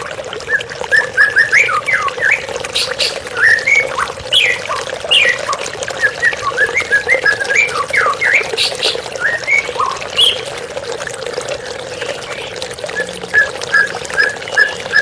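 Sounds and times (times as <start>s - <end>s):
running water: 0.0s - 15.0s
bird singing chirps and whistles: 0.4s - 10.5s, 12.0s - 15.0s.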